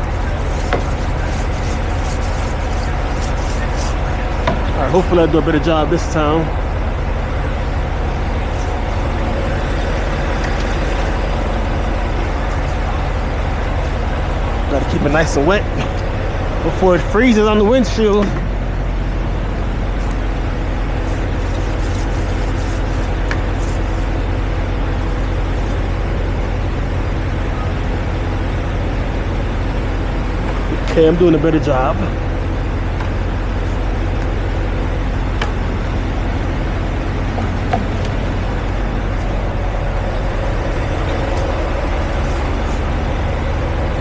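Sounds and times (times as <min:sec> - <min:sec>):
diesel truck engine idling: 0:00.0 - 0:44.0.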